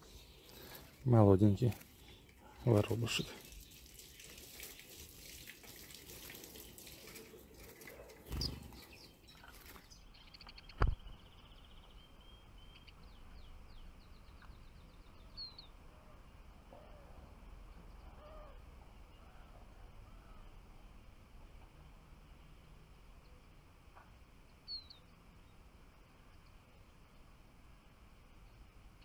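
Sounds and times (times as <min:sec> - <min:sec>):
small songbirds chirping and twittering: 0:00.0 - 0:29.0.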